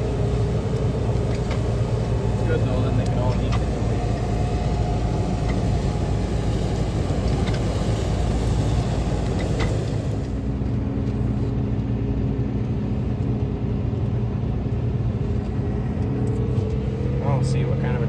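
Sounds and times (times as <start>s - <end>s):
farm vehicle engine rumbling: 0.0s - 18.0s.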